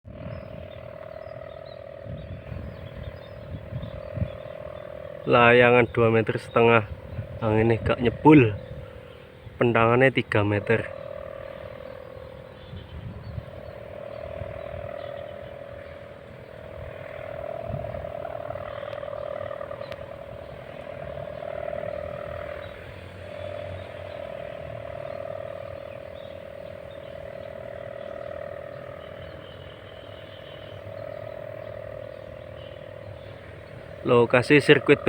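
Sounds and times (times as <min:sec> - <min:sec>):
kite humming drone: 0:00.0 - 0:35.0.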